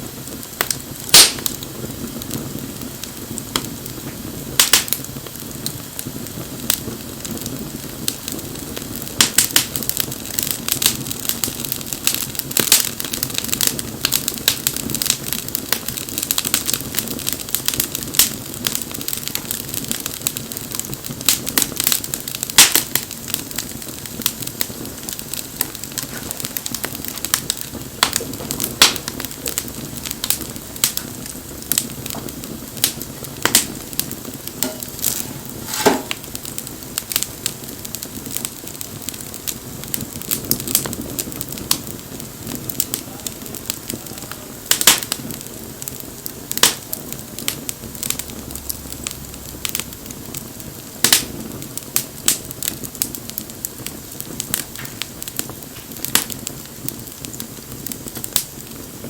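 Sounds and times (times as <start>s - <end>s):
flames rushing: 0.0s - 59.0s
wood fire crackling and popping: 0.0s - 59.0s.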